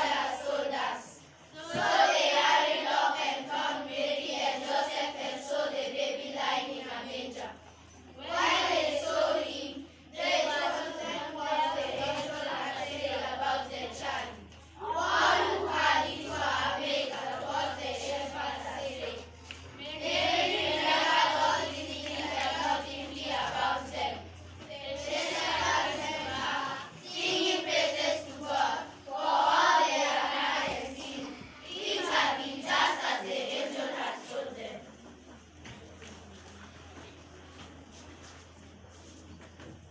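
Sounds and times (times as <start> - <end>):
children singing in unison: 0.0 - 7.6, 8.2 - 35.1.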